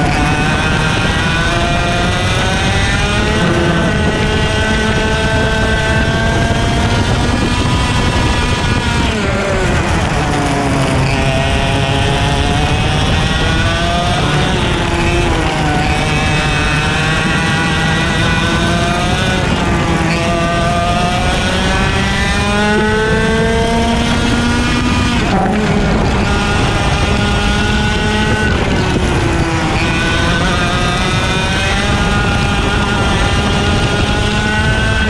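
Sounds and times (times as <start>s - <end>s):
kart engine at racing speed: 0.0s - 35.0s
other kart engines: 0.0s - 35.0s.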